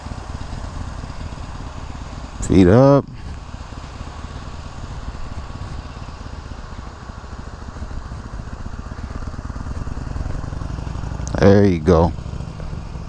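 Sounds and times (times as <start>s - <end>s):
motorcycle engine pulsing: 0.0s - 13.0s.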